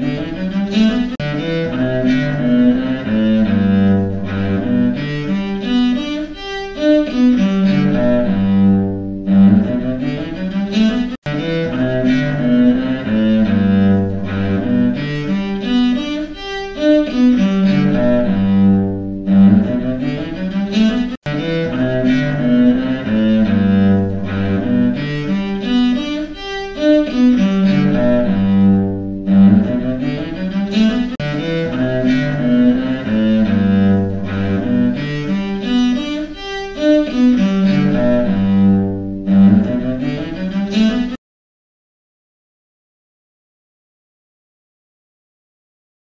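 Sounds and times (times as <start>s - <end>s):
solo cello bowed melody: 0.0s - 41.2s.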